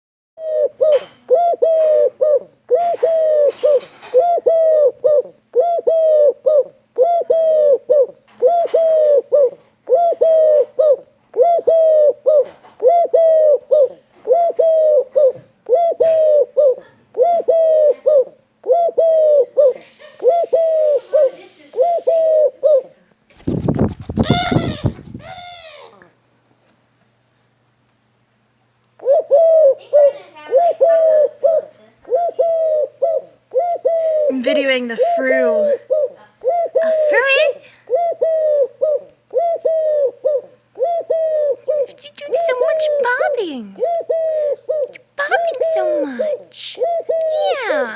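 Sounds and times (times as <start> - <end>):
pet bird calling: 0.4 - 22.9, 24.0 - 26.0, 29.0 - 47.9.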